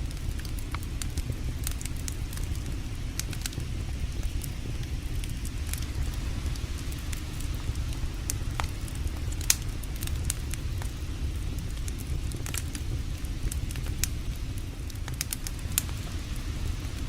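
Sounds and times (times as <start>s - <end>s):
campfire crackling and popping: 0.0s - 17.0s
steady low rumble: 0.0s - 17.0s.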